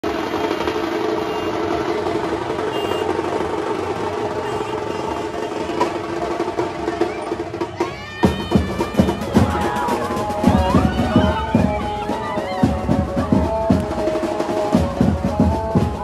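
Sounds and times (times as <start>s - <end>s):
loud sharp drum strikes: 0.0s - 16.0s
procession music with drums: 0.0s - 16.0s.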